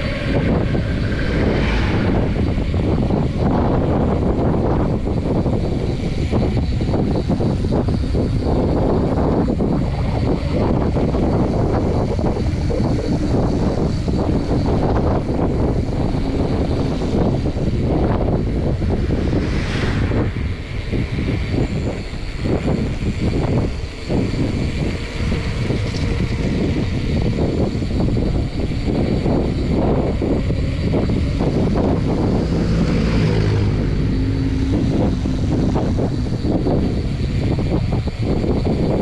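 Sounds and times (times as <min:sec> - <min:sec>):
vehicle engine hum: 0:00.0 - 0:39.0
wind buffeting microphone: 0:00.0 - 0:39.0.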